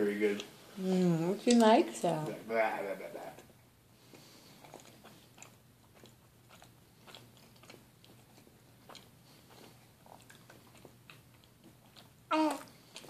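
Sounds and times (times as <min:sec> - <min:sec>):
low room hum: 0:00.0 - 0:13.0
baby chewing wet clicks: 0:00.3 - 0:00.5, 0:01.4 - 0:02.4, 0:03.3 - 0:13.0.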